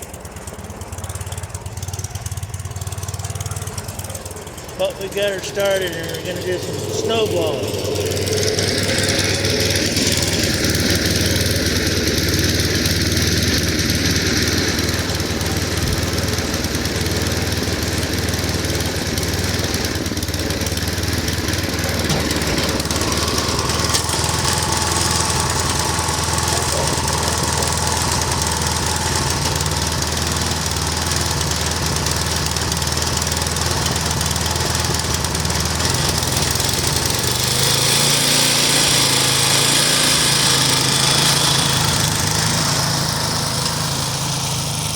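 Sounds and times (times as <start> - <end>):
snowblower engine running: 0.0 - 44.9.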